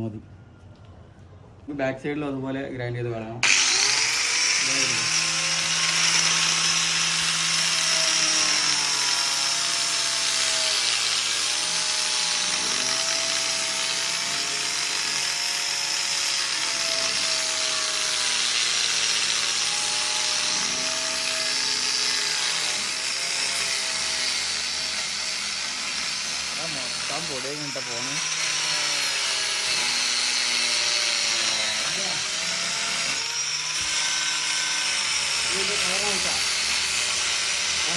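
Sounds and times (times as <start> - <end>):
electric grinder grinding: 3.4 - 37.9.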